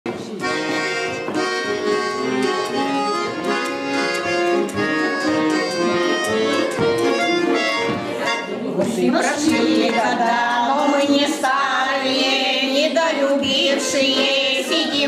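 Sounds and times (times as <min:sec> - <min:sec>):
button accordion melody: 0:00.1 - 0:15.0.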